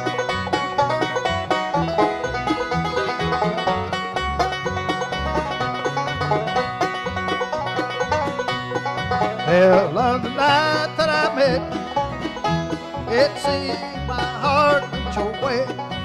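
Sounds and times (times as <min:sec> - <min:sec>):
acoustic guitar: 0:00.0 - 0:16.0
banjo picking: 0:00.0 - 0:16.0
mandolin: 0:00.0 - 0:16.0
upright bass: 0:00.0 - 0:16.0.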